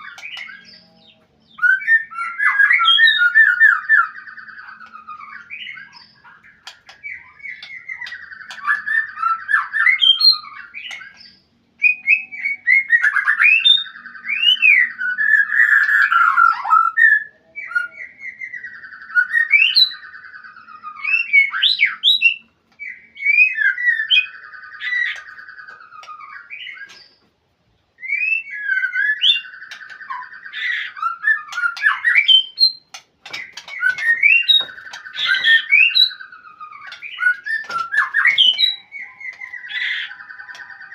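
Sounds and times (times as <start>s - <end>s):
bird singing rattles and whistles: 0.0s - 27.3s, 28.0s - 40.9s.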